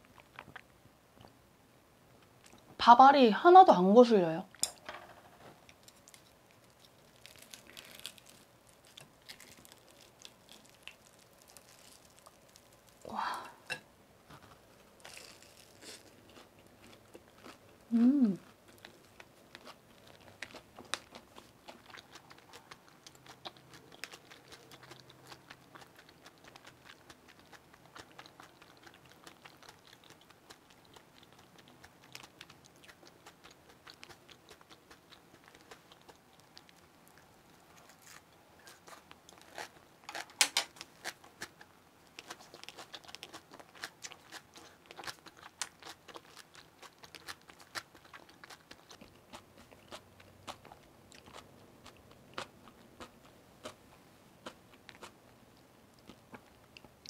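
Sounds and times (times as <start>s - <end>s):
person chewing crunchy food: 0.0s - 1.4s, 5.6s - 57.0s.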